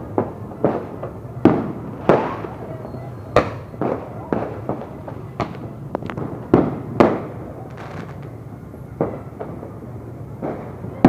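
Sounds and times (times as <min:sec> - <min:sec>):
faint firework pops: 0:00.0 - 0:08.4, 0:09.0 - 0:09.8, 0:10.4 - 0:10.8
steady low rumble: 0:00.0 - 0:10.4
fireworks bangs: 0:00.0 - 0:11.0.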